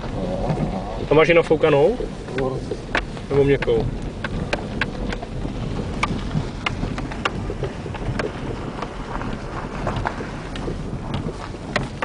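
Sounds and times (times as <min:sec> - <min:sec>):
car engine and tyres rumbling: 0:00.0 - 0:12.0
stones clicking under wheels: 0:00.0 - 0:12.0.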